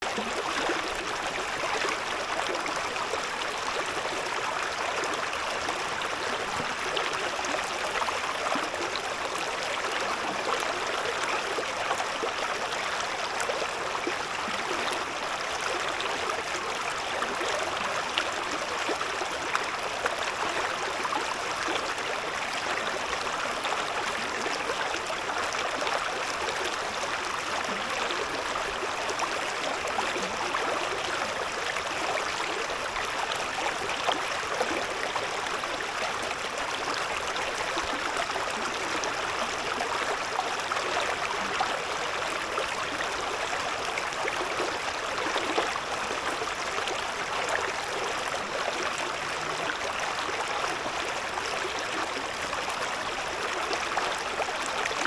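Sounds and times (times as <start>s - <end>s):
river babbling over stones: 0.0s - 55.0s.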